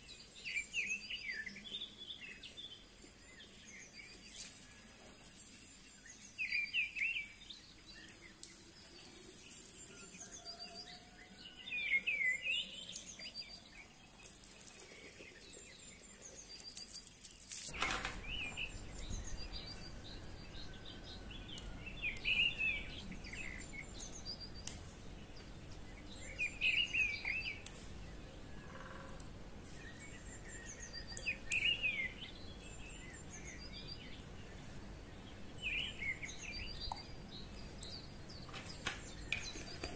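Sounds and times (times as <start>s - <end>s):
high bird tweets: 0.0s - 39.9s
low steady background noise: 0.0s - 39.9s
songbirds chirping: 0.0s - 39.9s.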